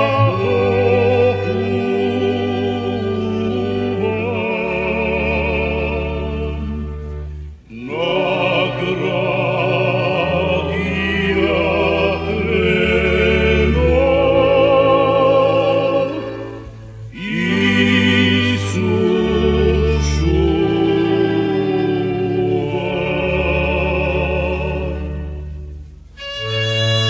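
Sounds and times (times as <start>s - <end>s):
solo singer with vibrato: 0.0s - 25.5s
sustained low accompaniment: 0.0s - 27.0s.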